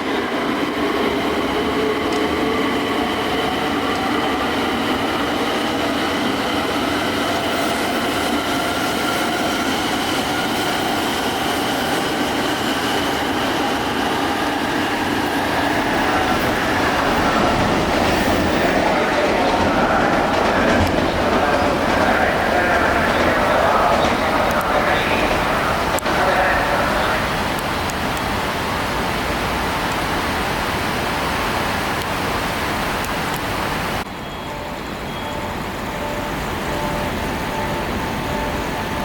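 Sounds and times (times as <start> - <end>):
train rumble: 0.0 - 39.0
train whining drive: 0.0 - 39.0.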